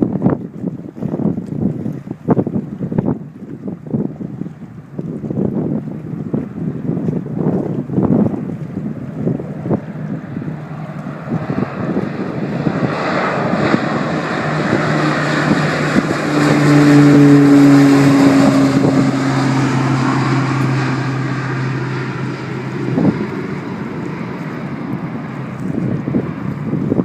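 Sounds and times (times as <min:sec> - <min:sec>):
turboprop plane passing: 0:00.0 - 0:27.0.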